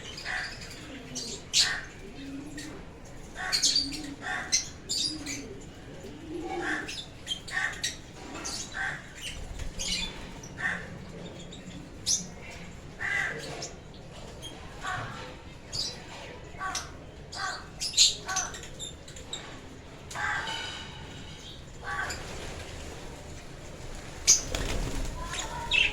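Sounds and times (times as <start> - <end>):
lovebirds chirping and squawking: 0.0 - 25.9.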